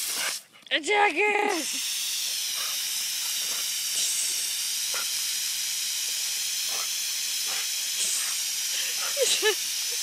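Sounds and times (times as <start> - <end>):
garden hose spraying water: 0.0 - 10.0.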